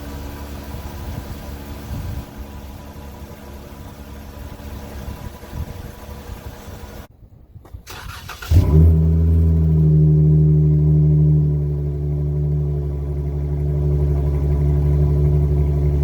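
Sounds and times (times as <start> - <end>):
car exhaust rumble: 0.0 - 16.0.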